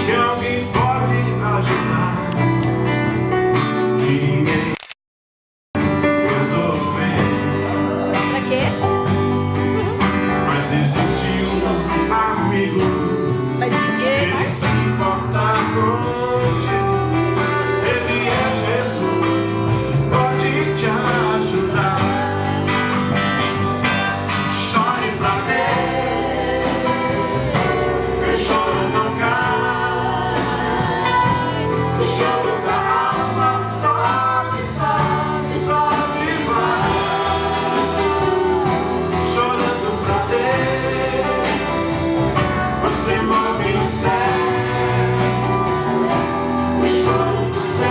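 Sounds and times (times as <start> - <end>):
gospel song singing: 0.0 - 4.8, 5.8 - 47.9
guitar accompaniment: 0.0 - 4.9, 5.8 - 47.9
low bass notes: 5.8 - 47.9.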